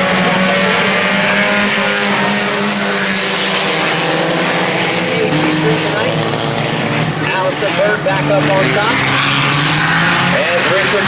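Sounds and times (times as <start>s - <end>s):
race car engines at speed: 0.0s - 11.0s.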